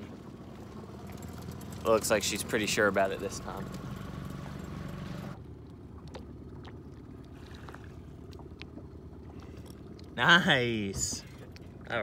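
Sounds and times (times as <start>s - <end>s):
low rumble of water: 0.0s - 12.0s
steady low hum: 0.0s - 12.0s
water slapping against hull: 0.0s - 12.0s.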